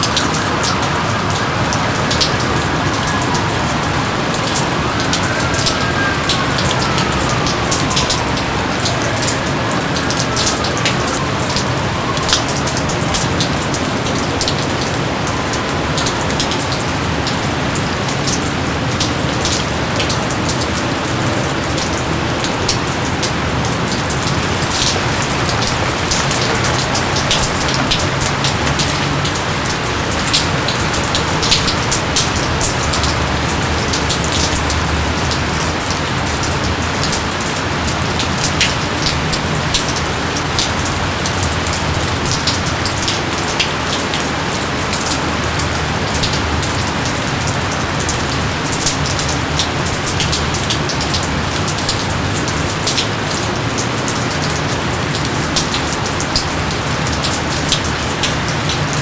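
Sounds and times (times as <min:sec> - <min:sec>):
heavy rain hiss: 0:00.0 - 0:59.0
raindrops splashing on leaves: 0:00.0 - 0:59.0.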